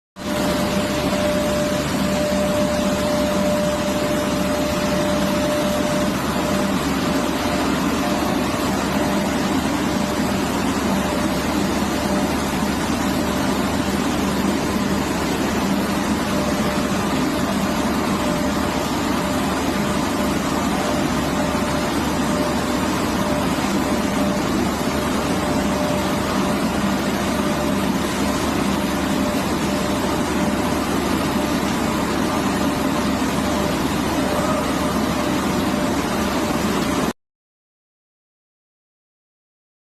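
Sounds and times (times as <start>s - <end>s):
furnace plant running: 0.2s - 37.1s.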